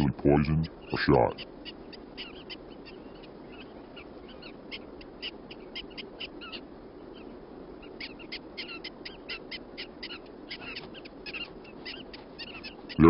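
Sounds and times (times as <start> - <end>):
prairie dogs alarm chirps: 0.0 - 13.0
steady background hiss: 0.0 - 13.0.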